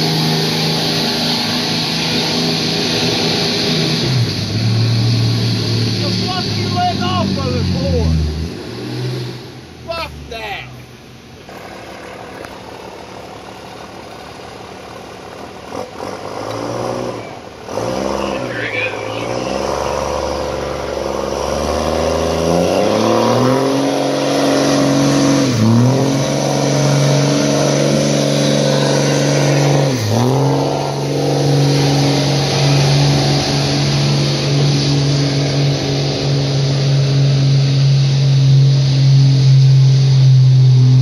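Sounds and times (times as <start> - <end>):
pickup engine revving under load: 0.0 - 41.0.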